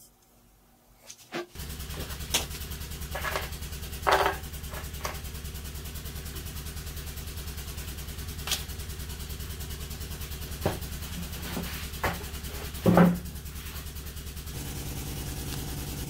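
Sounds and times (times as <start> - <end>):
low pulsing hum: 1.6 - 16.0.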